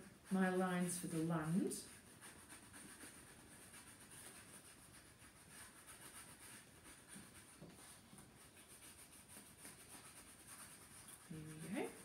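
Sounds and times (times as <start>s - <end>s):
crayon scratching on paper plate: 0.0s - 12.0s.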